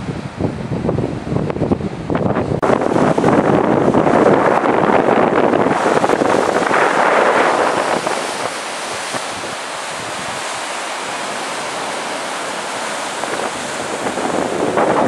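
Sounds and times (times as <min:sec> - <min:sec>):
surf washing over rocks: 0:00.0 - 0:15.0
wind buffeting microphone: 0:00.0 - 0:15.0.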